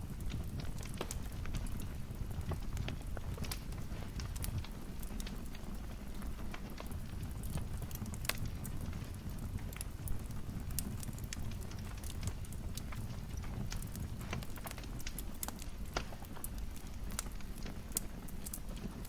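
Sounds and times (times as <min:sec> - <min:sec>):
low rumble of flames: 0:00.0 - 0:19.0
wood fire crackling: 0:00.0 - 0:19.0
sharp fire pops: 0:00.1 - 0:19.0.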